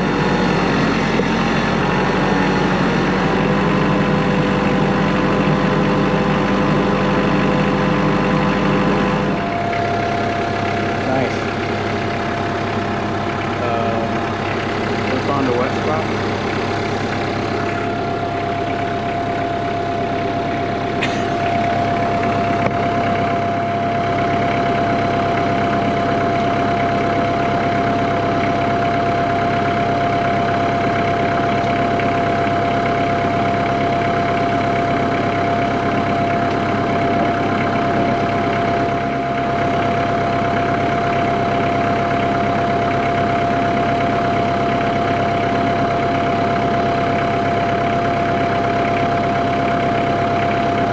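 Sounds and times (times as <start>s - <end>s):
high whine: 0.0s - 50.9s
tractor diesel engine idling: 0.0s - 50.9s.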